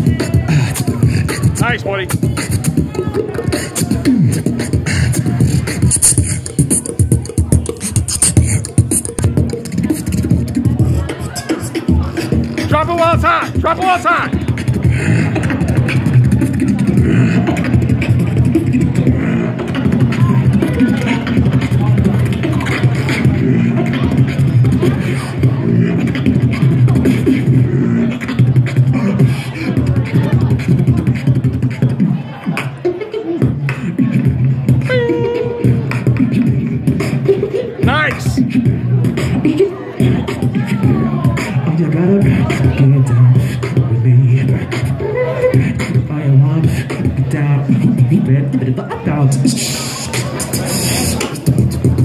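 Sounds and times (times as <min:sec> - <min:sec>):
man beatboxing into microphone: 0:00.0 - 0:52.0.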